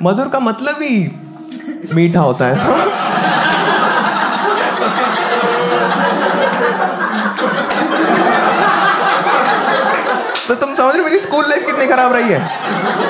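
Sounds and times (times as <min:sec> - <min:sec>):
audience laughing: 0:01.5 - 0:13.0.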